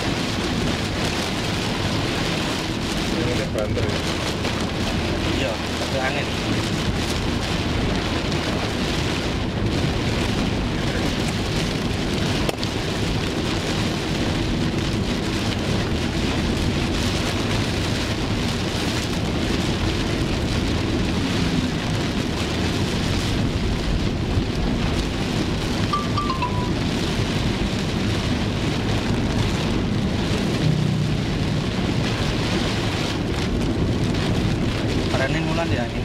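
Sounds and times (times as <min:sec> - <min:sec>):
car road noise: 0:00.0 - 0:36.0
heavy rain on a car roof: 0:00.0 - 0:36.0.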